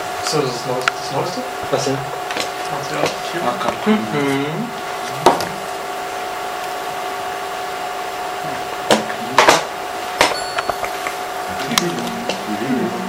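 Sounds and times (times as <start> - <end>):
whirring machine hum: 0.0 - 13.0.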